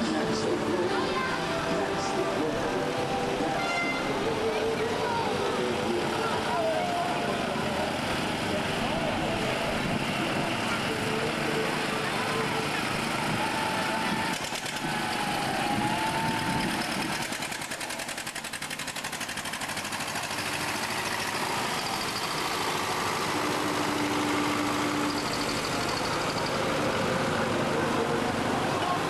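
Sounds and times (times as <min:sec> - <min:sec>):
tractor engine passing: 0:00.0 - 0:29.0.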